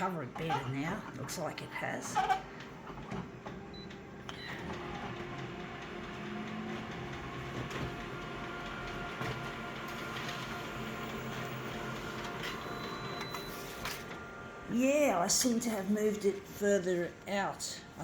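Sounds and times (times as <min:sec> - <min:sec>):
photocopier whirring: 0:00.0 - 0:18.0.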